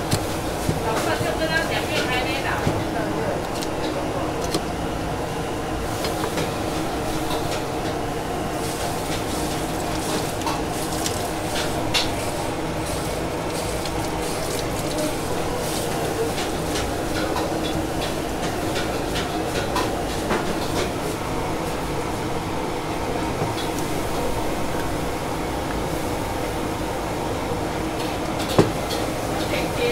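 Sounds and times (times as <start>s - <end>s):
crowd chatter: 0.0s - 29.9s.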